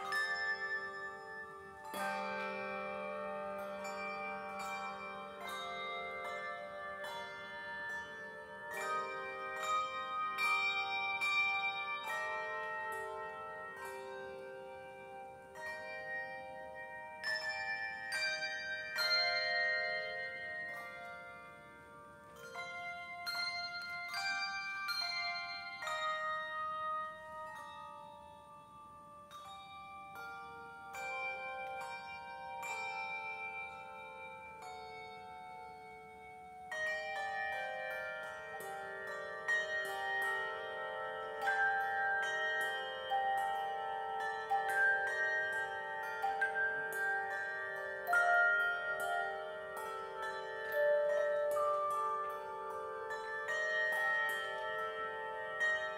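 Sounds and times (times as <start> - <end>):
handbells playing: 0.0 - 55.9.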